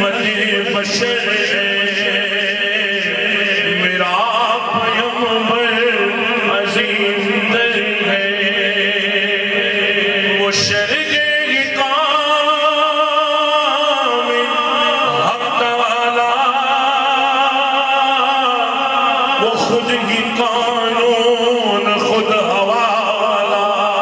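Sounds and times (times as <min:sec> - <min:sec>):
man singing into a microphone: 0:00.0 - 0:24.0.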